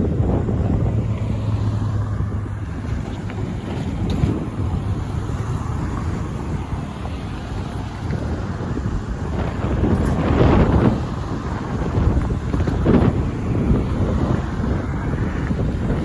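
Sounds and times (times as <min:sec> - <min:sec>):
diesel locomotives rumbling: 0:00.0 - 0:16.0
wind buffeting microphone: 0:00.0 - 0:16.0.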